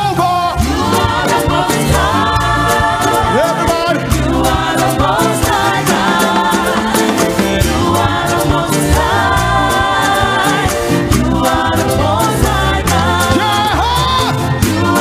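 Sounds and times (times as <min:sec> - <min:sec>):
band with bass and cymbals: 0:00.0 - 0:15.0
singers singing: 0:00.0 - 0:15.0.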